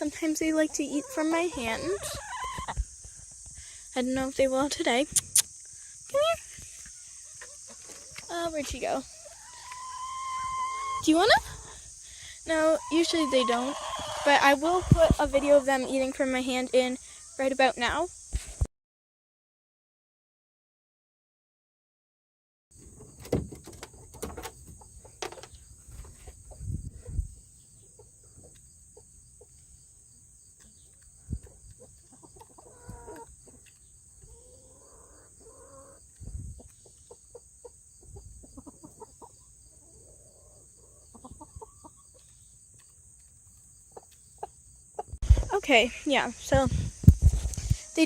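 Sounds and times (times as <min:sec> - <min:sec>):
chickens clucking: 0:00.0 - 0:18.1, 0:23.8 - 0:48.0.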